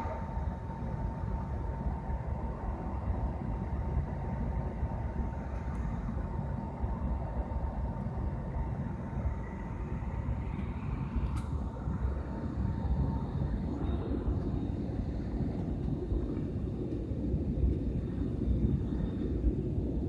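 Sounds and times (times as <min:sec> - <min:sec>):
airliner cabin rumble: 0:00.0 - 0:20.0
faint steady tone: 0:00.0 - 0:20.0.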